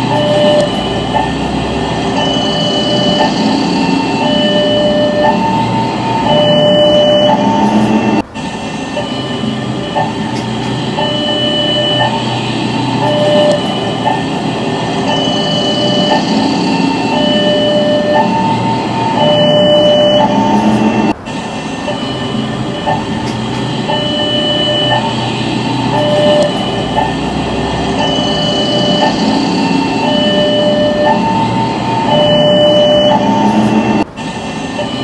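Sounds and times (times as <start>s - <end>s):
passing train rumbling: 0.0s - 35.0s
two-pitch crossing warning tones: 0.0s - 35.0s.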